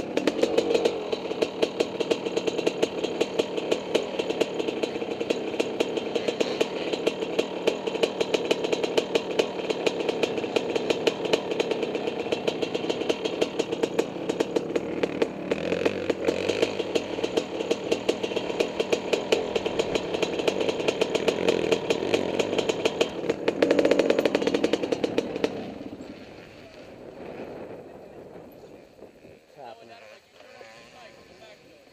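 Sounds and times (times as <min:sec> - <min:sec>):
two-stroke dirt bike engine popping: 0:00.0 - 0:31.9.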